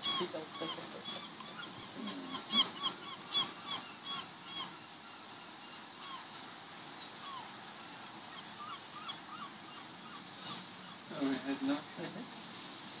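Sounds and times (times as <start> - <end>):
gull calling: 0.0 - 12.2
steady hiss: 0.0 - 13.0.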